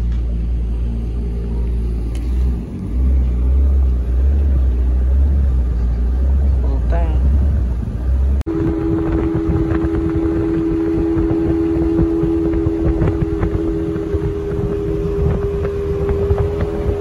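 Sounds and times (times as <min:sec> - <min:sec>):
outboard motor running: 0:00.0 - 0:17.0
wind on microphone: 0:02.2 - 0:17.0.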